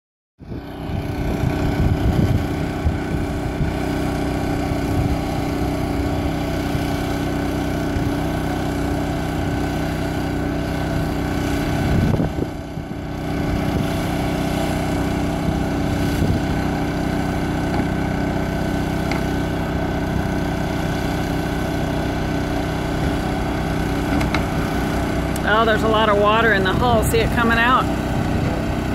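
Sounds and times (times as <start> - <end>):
engine droning steadily: 0.4 - 28.9.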